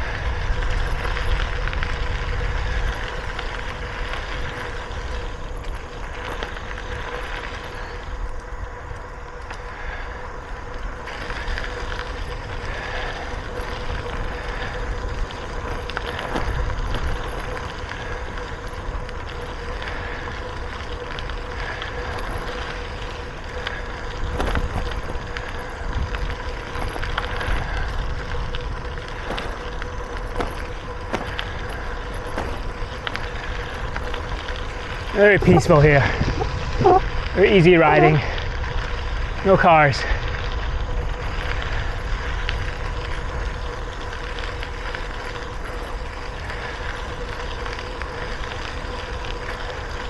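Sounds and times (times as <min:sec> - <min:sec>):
bicycle tyre rumble: 0:00.0 - 0:50.0
wind buffeting microphone: 0:00.0 - 0:50.0.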